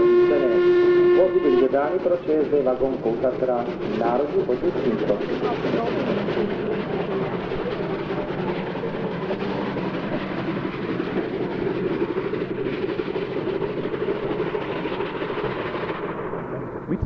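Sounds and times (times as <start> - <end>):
steam locomotive running past: 0.0 - 17.0.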